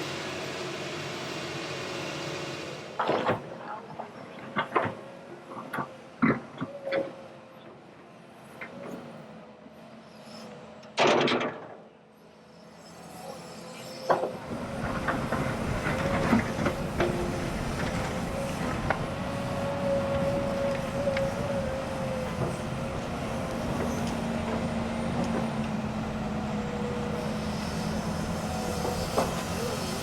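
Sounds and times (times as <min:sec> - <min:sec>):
excavator engine and hydraulic whine: 0:00.0 - 0:30.0.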